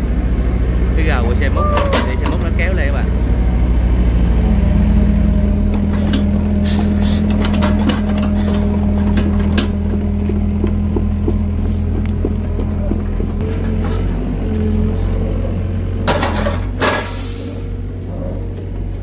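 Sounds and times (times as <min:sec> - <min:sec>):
heavy diesel engines running hard: 0:00.0 - 0:19.0.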